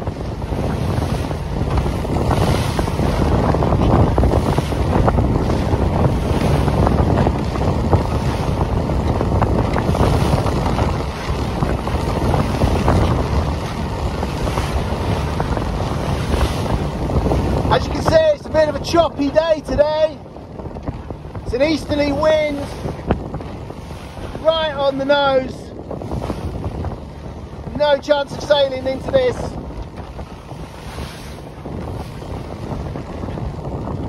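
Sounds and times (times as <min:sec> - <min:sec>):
strong wind buffeting microphone: 0:00.0 - 0:34.0
waves splashing against boat: 0:00.0 - 0:34.0.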